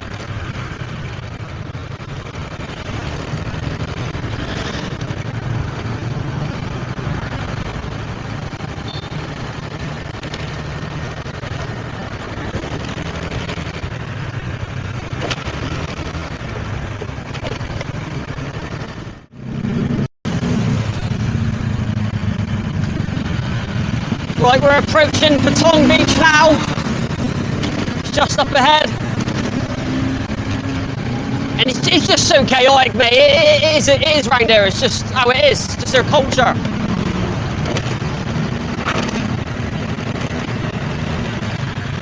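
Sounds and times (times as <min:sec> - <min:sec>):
wind and road noise: 0:00.0 - 0:42.0.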